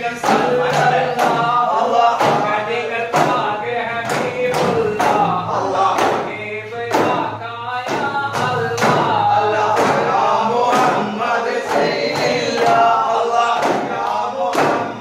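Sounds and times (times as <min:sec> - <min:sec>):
men singing in chorus: 0:00.0 - 0:15.0.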